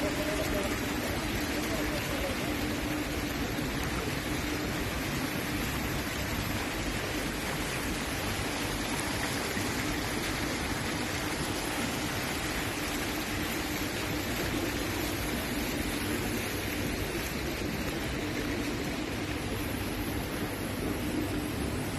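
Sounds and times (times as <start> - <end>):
faint steady hum: 0.0 - 21.9
fountain water splashing into pool: 0.0 - 21.9.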